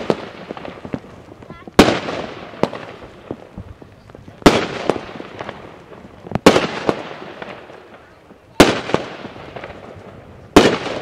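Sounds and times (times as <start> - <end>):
faint firework pops: 0.0 - 11.0
loud firework bangs: 0.0 - 11.0.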